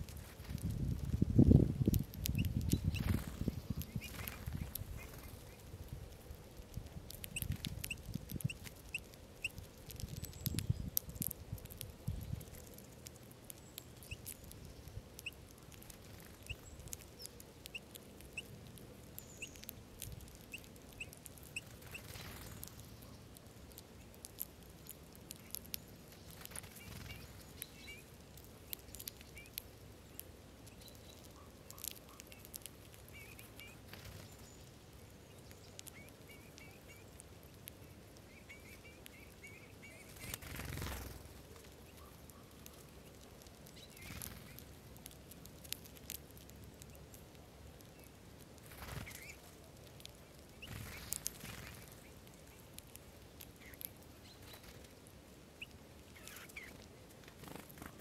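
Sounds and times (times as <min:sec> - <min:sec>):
seeds being pecked and cracked: 0:00.0 - 0:58.0.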